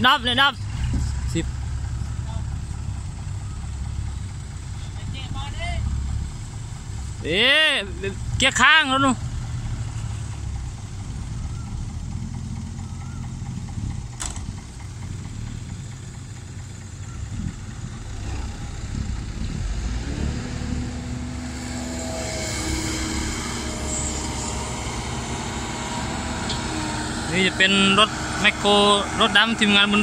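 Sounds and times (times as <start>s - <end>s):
heavy diesel engine running: 0.0s - 30.0s
higher engine note: 0.0s - 30.0s.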